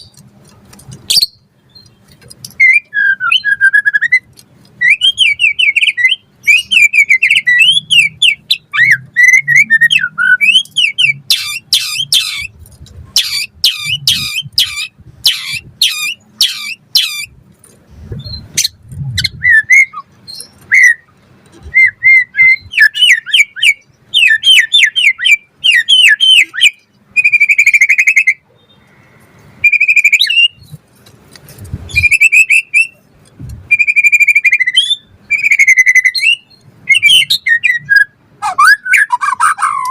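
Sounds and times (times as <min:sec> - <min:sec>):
bird singing whistled song: 0:01.1 - 0:12.5, 0:13.2 - 0:17.3, 0:18.2 - 0:29.0, 0:29.6 - 0:30.8, 0:31.9 - 0:33.0, 0:33.7 - 0:39.9.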